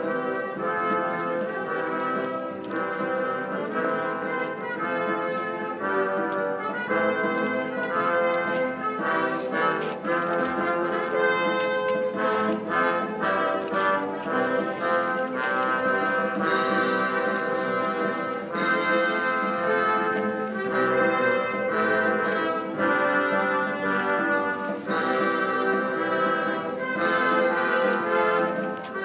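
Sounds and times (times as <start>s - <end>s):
brass band playing chords: 0.0s - 29.0s.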